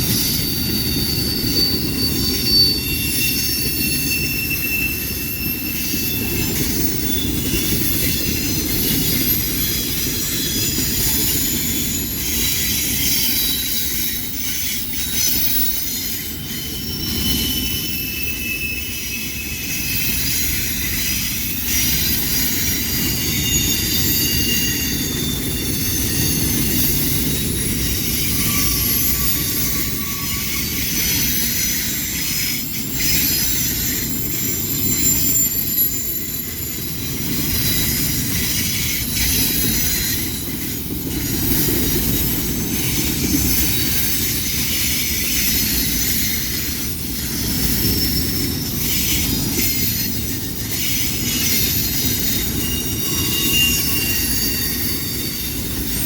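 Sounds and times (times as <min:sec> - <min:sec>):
freight train rumbling: 0:00.0 - 0:56.0
wheel squeal: 0:00.0 - 0:56.0.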